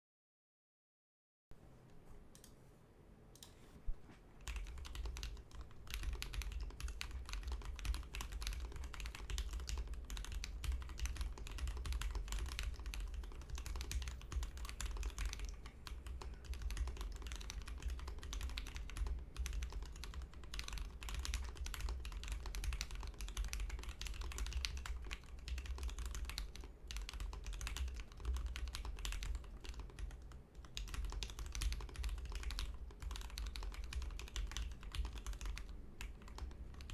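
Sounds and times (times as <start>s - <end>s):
mechanical keyboard typing: 4.4s - 36.9s.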